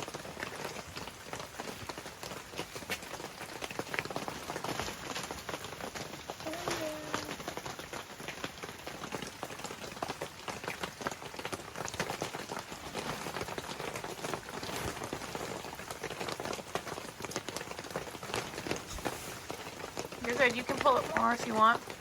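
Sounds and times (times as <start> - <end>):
raindrops tapping on plastic tarp: 0.0 - 22.0
steady rain falling: 0.0 - 22.0.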